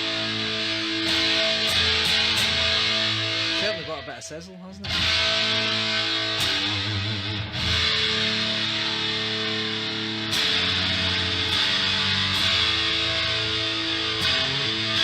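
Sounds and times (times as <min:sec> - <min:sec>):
electric guitar chords ringing: 0:00.0 - 0:15.0.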